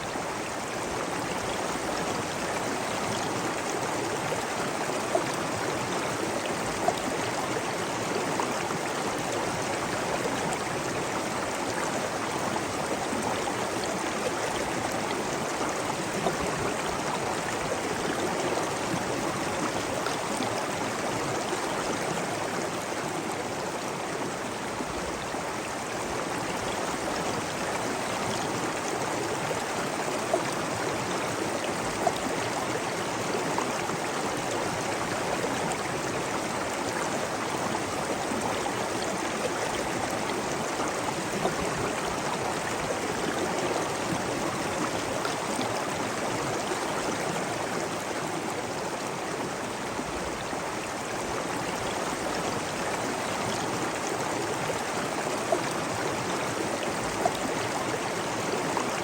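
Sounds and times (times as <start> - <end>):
flowing water gurgling: 0.0 - 59.0.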